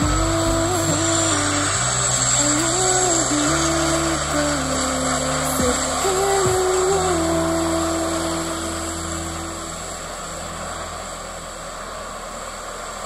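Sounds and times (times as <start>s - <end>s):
background music held notes: 0.0s - 13.0s.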